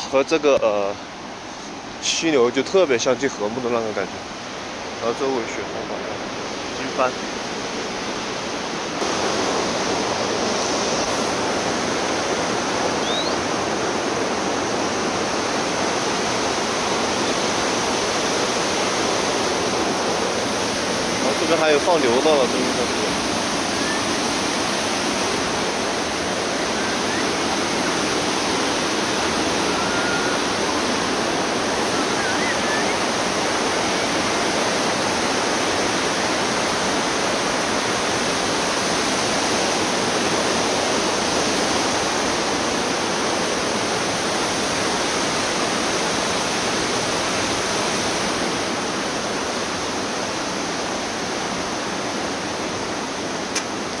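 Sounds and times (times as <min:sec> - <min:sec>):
mountain stream rushing: 0:00.0 - 0:54.0.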